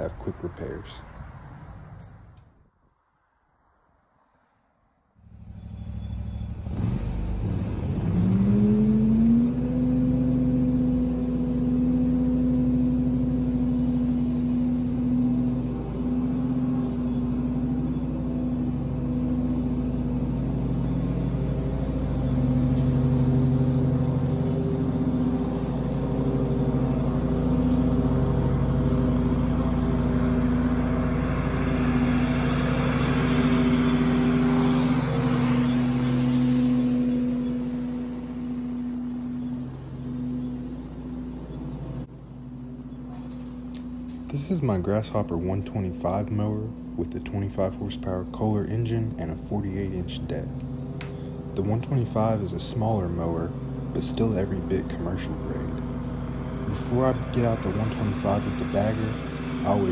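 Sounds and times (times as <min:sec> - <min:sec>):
mower engine running: 0:05.2 - 0:59.9.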